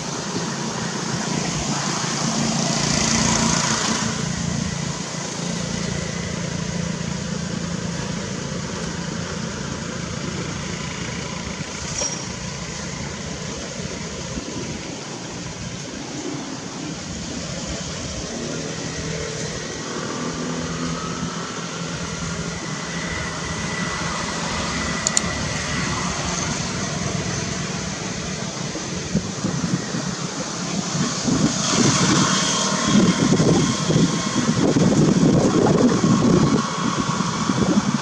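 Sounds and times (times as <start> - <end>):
gusty wind rumbling: 0.0 - 38.0.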